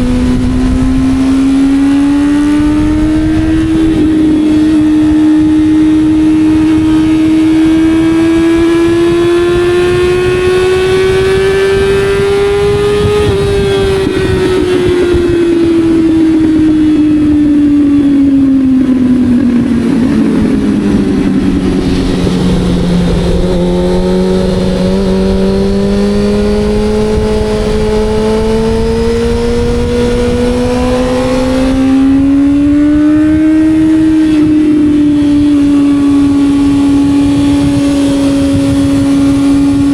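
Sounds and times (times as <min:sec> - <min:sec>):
motorcycle engine under load: 0:00.0 - 0:39.9
wind rushing past microphone: 0:00.0 - 0:39.9.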